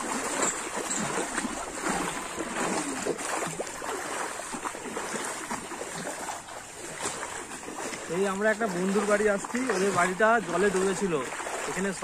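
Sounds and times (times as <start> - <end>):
wading through water: 0.0 - 12.0.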